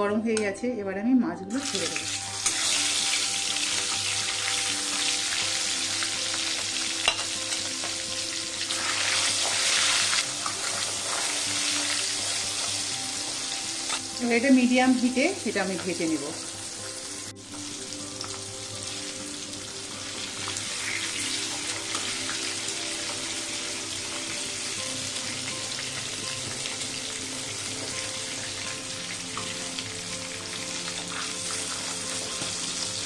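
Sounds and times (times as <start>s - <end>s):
fish sizzling in hot oil: 1.6s - 33.0s.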